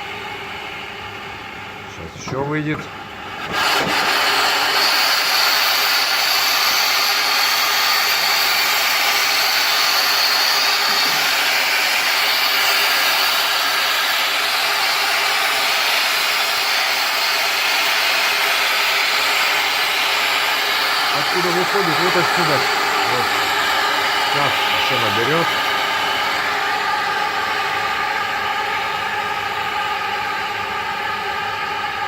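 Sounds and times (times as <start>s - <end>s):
steam hissing from sauna stove: 3.2s - 32.0s.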